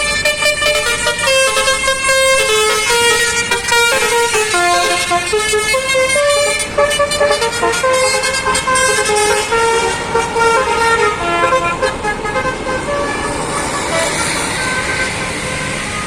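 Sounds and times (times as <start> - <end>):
bus musical horn playing a tune: 0.0 - 16.0
road noise: 0.0 - 16.0.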